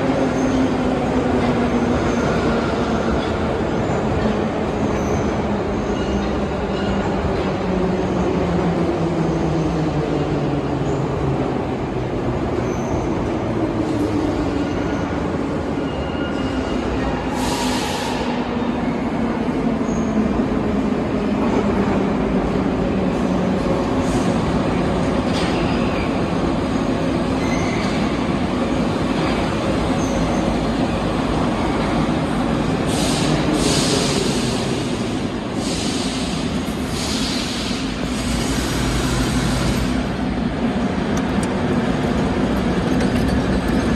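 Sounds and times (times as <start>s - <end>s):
metro train rumbling: 0.0s - 43.9s.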